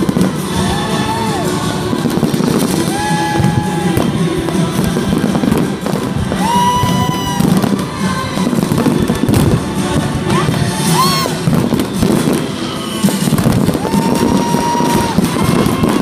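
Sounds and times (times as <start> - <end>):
fireworks bursting and crackling: 0.0 - 16.0
loud music: 0.0 - 16.0.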